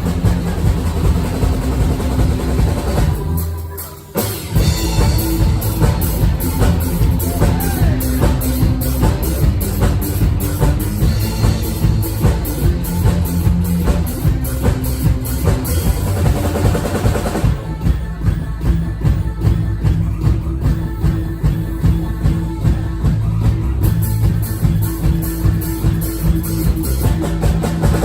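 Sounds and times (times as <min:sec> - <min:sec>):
drum kit steady beat: 0:00.0 - 0:28.0
live rock band playing: 0:00.0 - 0:28.0.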